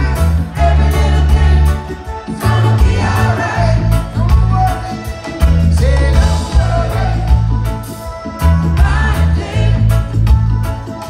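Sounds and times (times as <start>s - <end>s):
live reggae band: 0.0s - 11.0s
people singing: 0.0s - 11.0s.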